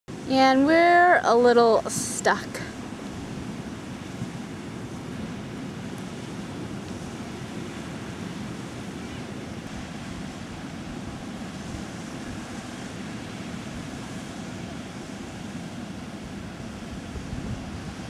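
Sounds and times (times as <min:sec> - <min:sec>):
flood water rushing: 0:00.1 - 0:18.0.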